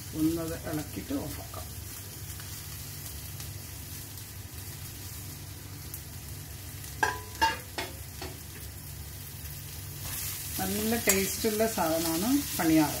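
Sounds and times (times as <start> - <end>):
shallots sizzling in oil: 0.0 - 13.0.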